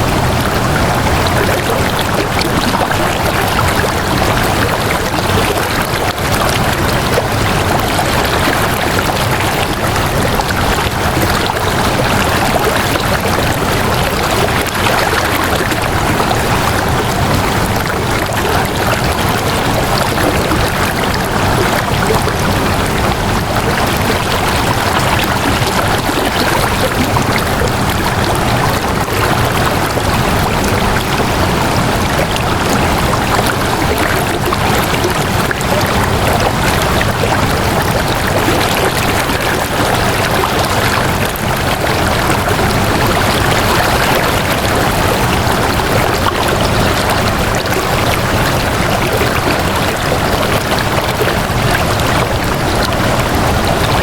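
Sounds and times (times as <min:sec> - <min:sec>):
flowing stream water: 0:00.0 - 0:54.0.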